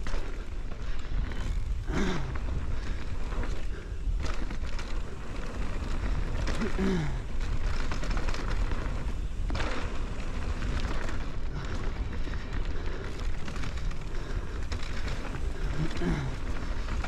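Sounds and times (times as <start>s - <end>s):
tyres rolling on a dirt trail: 0.0s - 17.0s.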